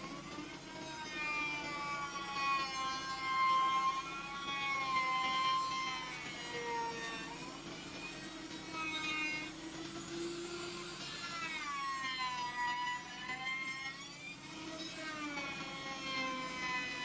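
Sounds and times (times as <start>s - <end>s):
power tool motor whining: 0.0s - 17.0s.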